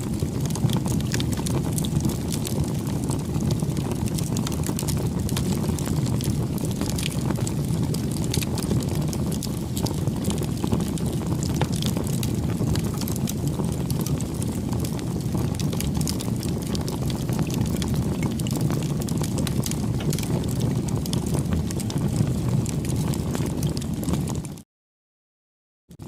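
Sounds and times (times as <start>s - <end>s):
burning wood crackling: 0.0s - 24.2s
low rumble of flames: 0.0s - 24.6s.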